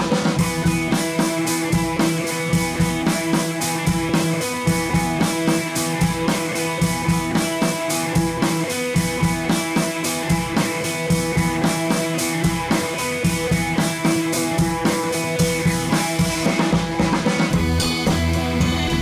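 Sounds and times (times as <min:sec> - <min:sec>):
music with steady drum beat: 0:00.0 - 0:19.0.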